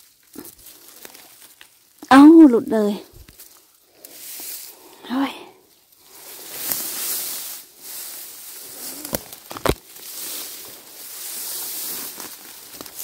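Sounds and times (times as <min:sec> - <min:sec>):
rustling through undergrowth: 0:00.0 - 0:13.0.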